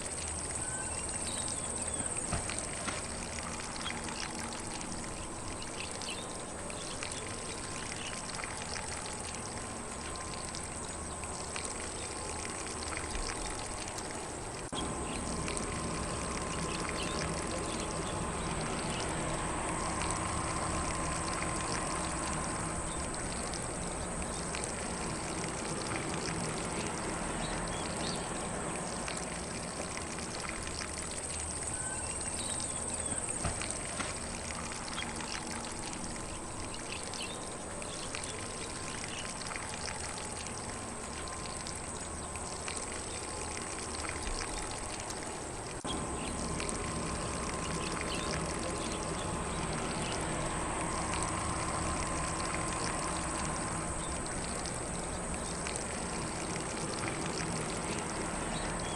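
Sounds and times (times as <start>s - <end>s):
sprinkler spray hissing: 0.0s - 58.9s.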